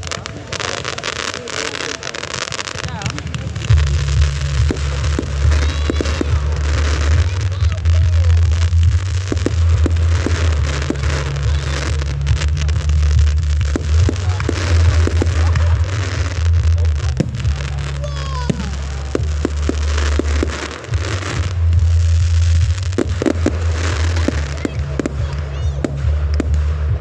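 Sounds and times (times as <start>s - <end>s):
fireworks popping and crackling: 0.0s - 27.0s
low rumble: 3.1s - 27.0s.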